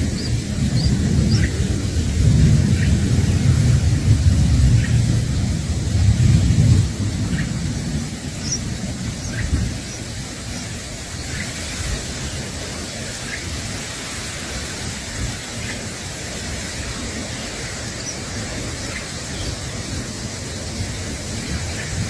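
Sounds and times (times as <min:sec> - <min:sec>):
steady hiss and low rumble: 0:00.0 - 0:22.0.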